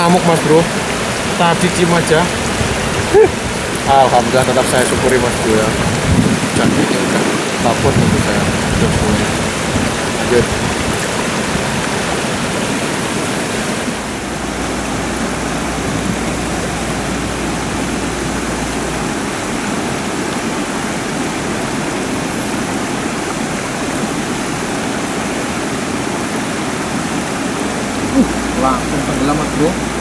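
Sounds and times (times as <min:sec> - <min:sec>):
water rushing over a weir: 0:00.0 - 0:30.0.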